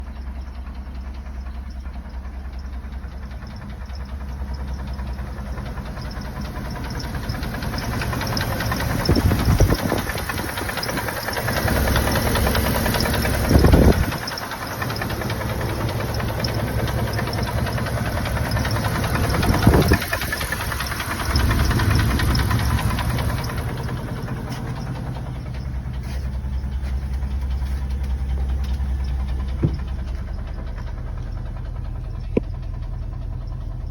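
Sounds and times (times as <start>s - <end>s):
knocking engine revving: 0.7s - 33.9s.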